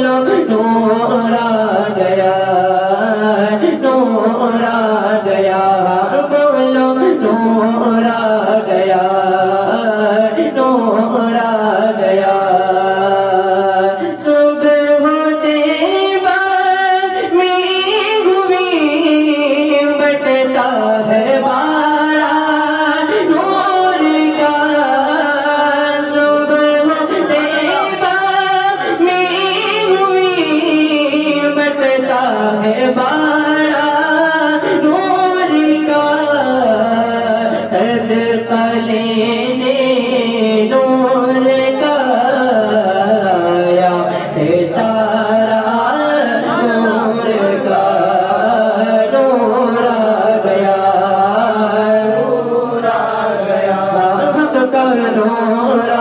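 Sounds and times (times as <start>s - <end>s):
man singing into microphone: 0.0s - 56.0s.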